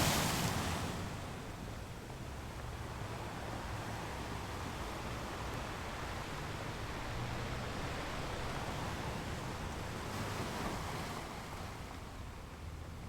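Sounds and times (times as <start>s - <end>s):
sea: 0.0s - 13.0s.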